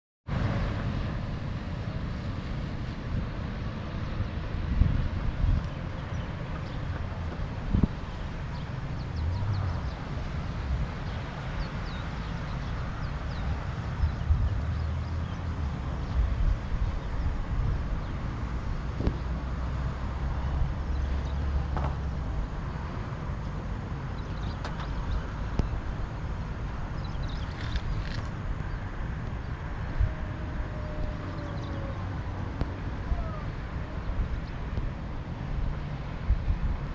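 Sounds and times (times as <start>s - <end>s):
road and engine rumble: 0.2s - 36.9s.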